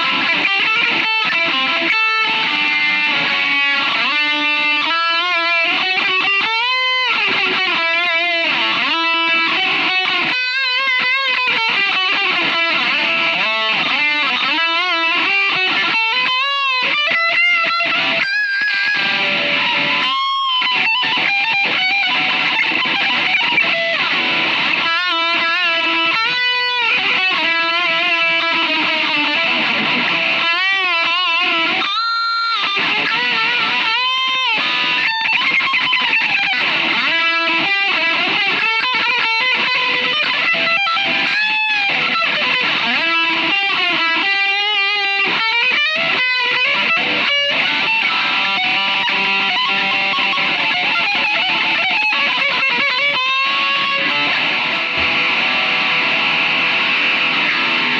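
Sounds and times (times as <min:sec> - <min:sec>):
distorted electric guitar lead: 0:00.0 - 0:57.9.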